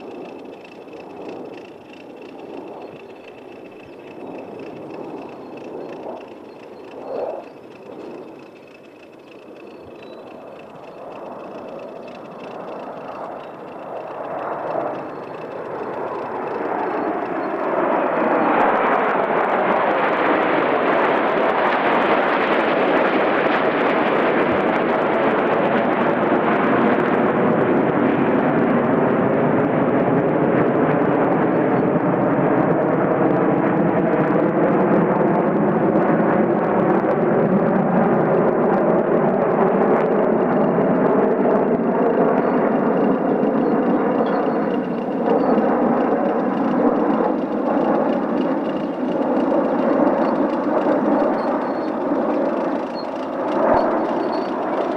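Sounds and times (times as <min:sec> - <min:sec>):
fighter jets flying over: 0:00.0 - 0:54.9.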